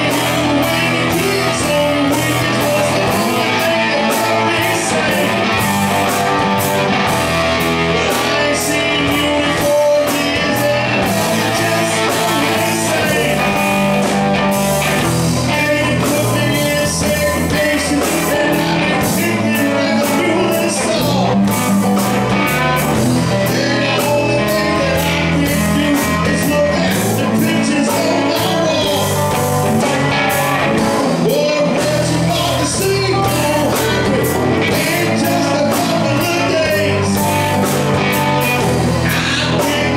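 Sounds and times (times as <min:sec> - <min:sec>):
man singing into a microphone: 0:00.0 - 0:06.4, 0:07.3 - 0:14.2, 0:15.0 - 0:39.9
rock band playing: 0:00.0 - 0:39.9.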